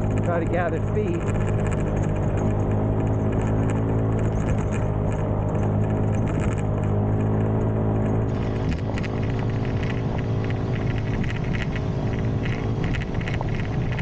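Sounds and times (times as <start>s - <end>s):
motorbike engine running: 0.0s - 14.0s.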